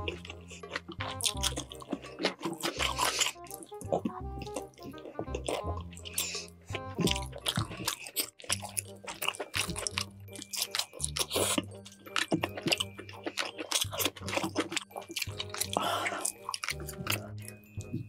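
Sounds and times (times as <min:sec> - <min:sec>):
crunchy wet chewing: 0:00.0 - 0:18.0.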